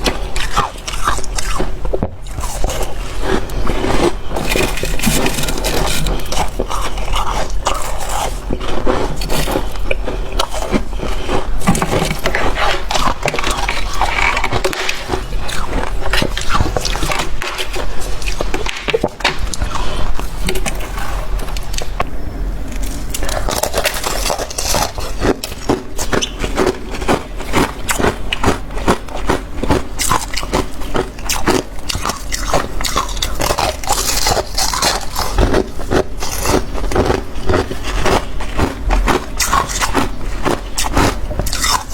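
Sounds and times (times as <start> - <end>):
chewing crunchy ice: 0.0 - 22.1, 22.8 - 41.9.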